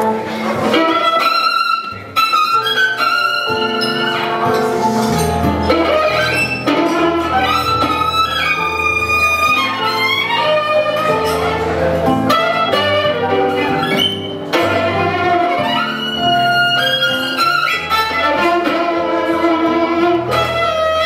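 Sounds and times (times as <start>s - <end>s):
bass line: 0.0s - 21.0s
piano and guitar accompaniment: 0.0s - 21.0s
violin melody: 0.0s - 21.0s.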